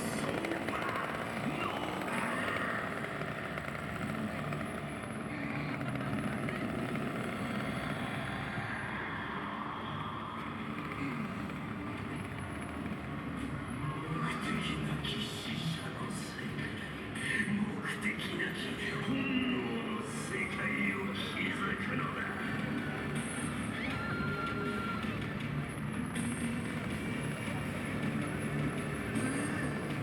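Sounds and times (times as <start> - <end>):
chainsaw engine revving: 0.0 - 30.0.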